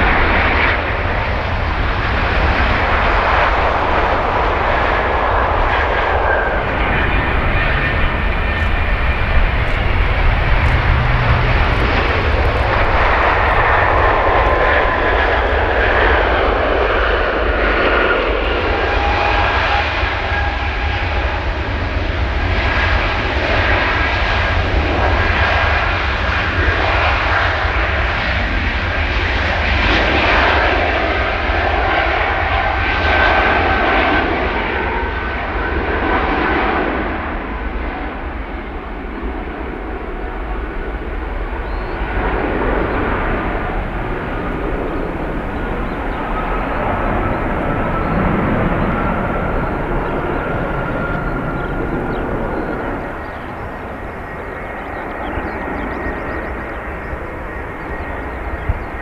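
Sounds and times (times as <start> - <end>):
jet engines rumbling and whining: 0.0 - 59.0.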